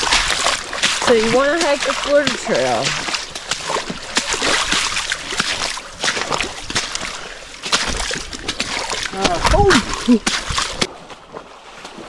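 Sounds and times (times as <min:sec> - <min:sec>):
footsteps squelching through mud: 0:00.0 - 0:12.0.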